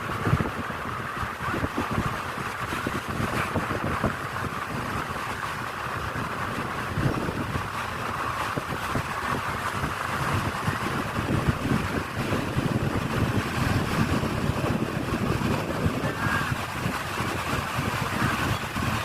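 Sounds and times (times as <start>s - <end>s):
sea surf rushing: 0.0s - 19.0s
wind buffeting microphone: 0.0s - 19.0s.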